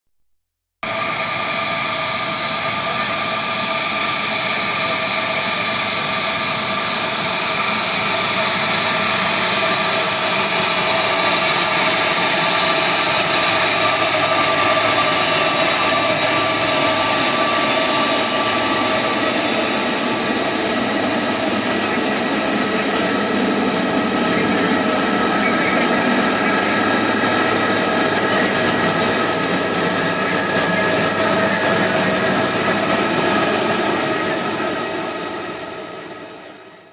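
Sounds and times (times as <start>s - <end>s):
high whining tones: 0.8s - 36.9s
jet engines at takeoff power: 0.8s - 36.9s.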